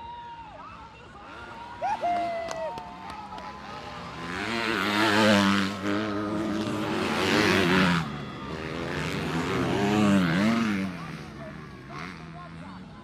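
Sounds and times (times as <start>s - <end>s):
motocross bikes revving: 1.0s - 13.0s.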